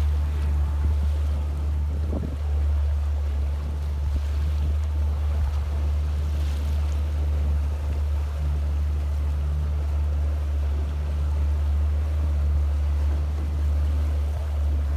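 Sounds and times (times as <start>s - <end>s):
boat engine drone: 0.0s - 14.9s
wind: 0.0s - 14.9s.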